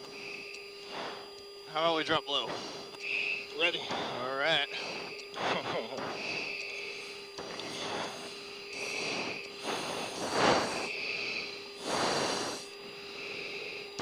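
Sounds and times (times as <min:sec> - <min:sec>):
heavy breathing into oxygen mask: 0:00.0 - 0:14.0
steady cockpit hum: 0:00.0 - 0:14.0.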